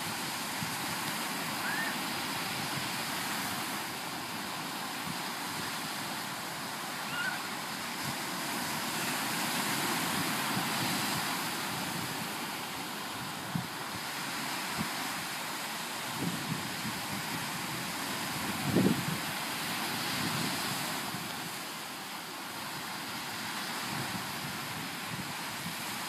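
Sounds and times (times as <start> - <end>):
small surf on sandy beach: 0.0 - 26.0.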